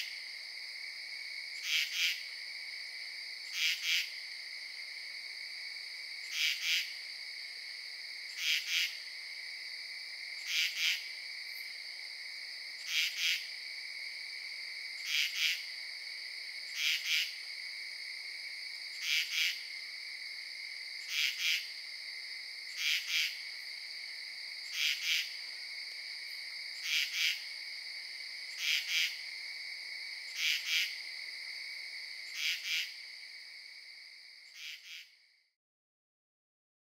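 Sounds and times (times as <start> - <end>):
insects high-pitched trill: 0.0 - 35.2
insect loud double chirp: 0.0 - 35.4.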